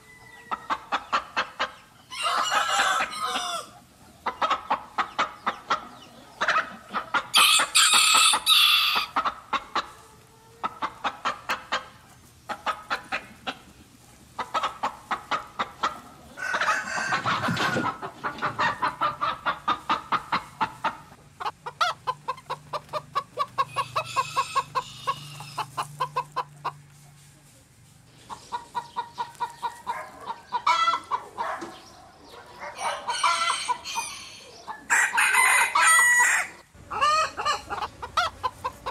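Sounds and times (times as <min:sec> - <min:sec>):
chickens loud high calls: 0:00.0 - 0:13.8, 0:14.4 - 0:26.8, 0:28.2 - 0:38.9
chickens clucking: 0:00.0 - 0:38.9.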